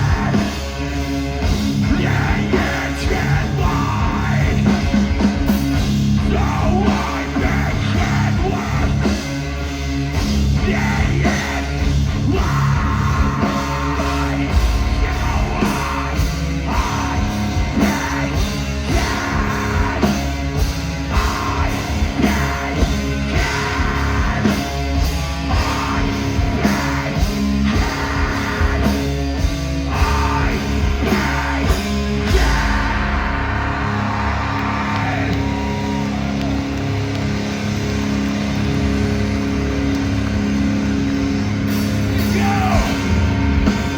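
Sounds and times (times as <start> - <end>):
bass guitar: 0.0 - 43.9
distorted guitars: 0.0 - 43.9
yelled vocals: 0.0 - 43.9.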